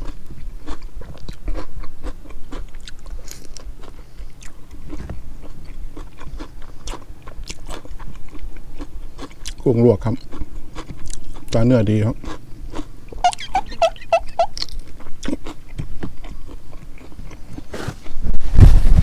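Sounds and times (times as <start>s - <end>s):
person chewing and crunching food: 0.0s - 18.4s.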